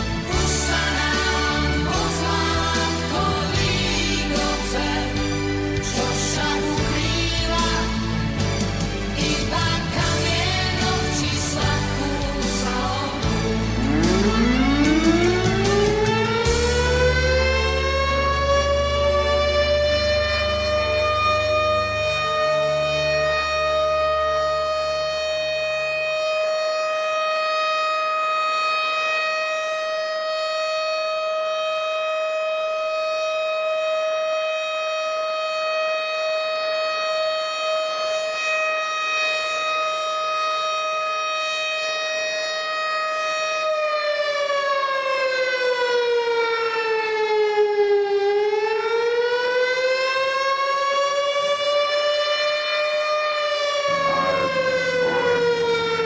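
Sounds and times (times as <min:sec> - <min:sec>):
siren wail: 0:00.0 - 0:56.0.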